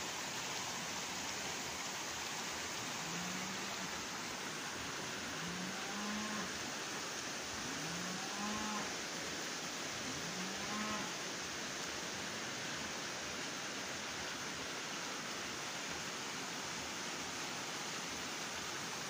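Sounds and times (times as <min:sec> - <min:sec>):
stream flowing over stones: 0:00.0 - 0:19.0.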